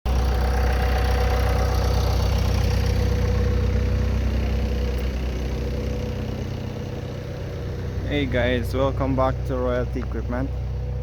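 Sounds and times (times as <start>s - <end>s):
diesel engine idling: 0.1s - 11.0s.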